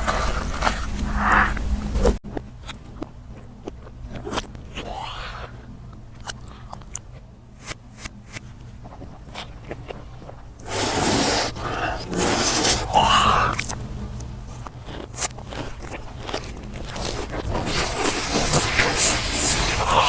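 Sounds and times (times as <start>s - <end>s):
biting and crunching: 0.0s - 20.0s.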